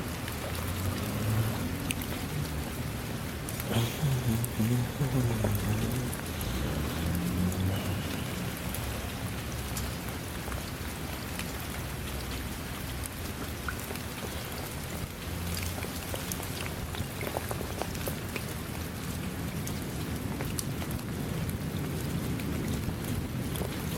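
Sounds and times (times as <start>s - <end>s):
rain pattering on hard surface: 0.0s - 23.9s.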